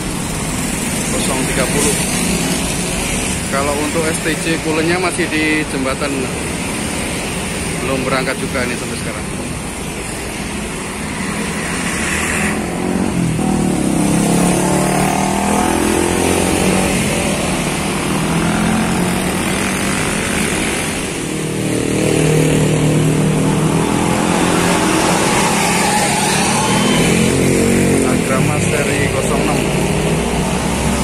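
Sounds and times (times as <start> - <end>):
motorbikes and cars passing: 0.0 - 31.0.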